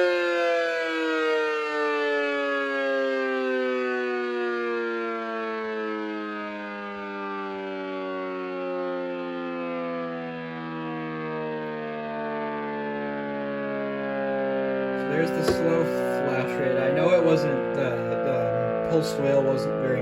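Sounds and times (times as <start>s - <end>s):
siren pulsed wail: 0.0s - 20.0s.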